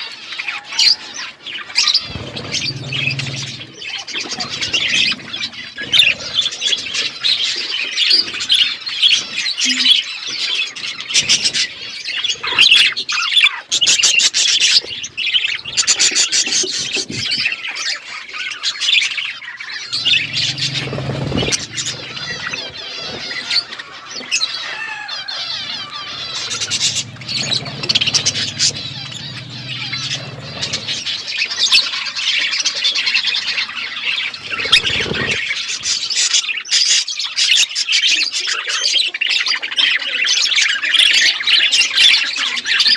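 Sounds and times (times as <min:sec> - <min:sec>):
budgerigars chirping and squawking: 0:00.0 - 0:17.7, 0:19.2 - 0:39.4.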